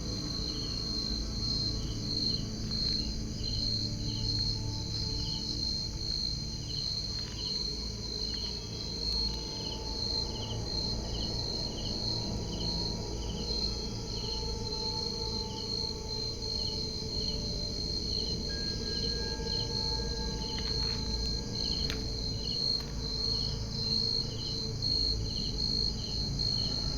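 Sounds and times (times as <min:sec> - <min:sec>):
crickets trilling: 0:00.0 - 0:26.9
insect chirping: 0:00.0 - 0:26.9.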